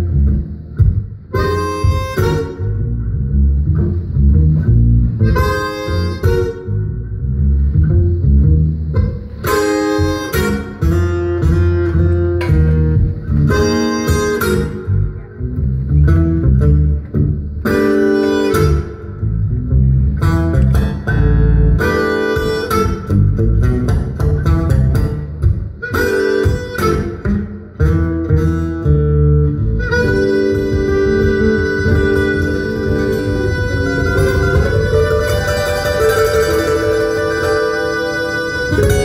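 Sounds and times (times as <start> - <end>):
plucked guitar: 0.0 - 39.0
blues harmonica: 1.2 - 8.3, 8.9 - 39.0.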